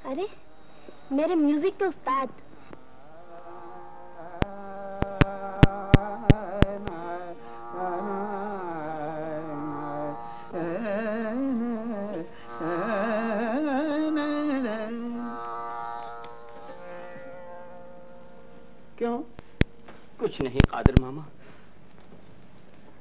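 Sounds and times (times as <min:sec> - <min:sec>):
slow wavering classical melody: 0:00.0 - 0:21.2.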